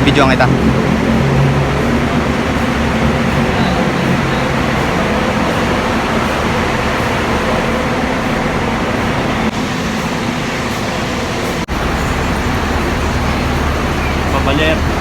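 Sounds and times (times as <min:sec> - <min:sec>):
bus engines running: 0:00.0 - 0:15.0
traffic noise: 0:00.0 - 0:15.0.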